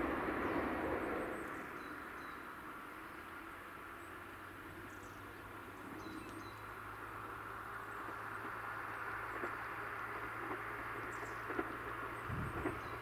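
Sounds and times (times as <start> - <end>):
diesel train rumble: 0.0 - 13.0.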